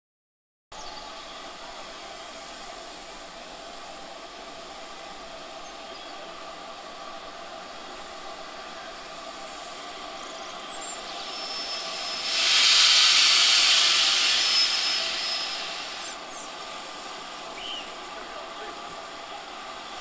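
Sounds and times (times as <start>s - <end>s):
steam locomotive hissing: 0.8s - 20.0s.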